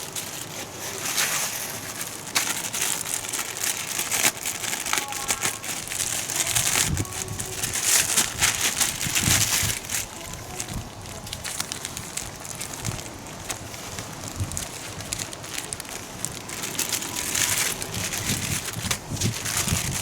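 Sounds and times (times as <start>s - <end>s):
rustling crinkling handling noise: 0.0s - 20.0s.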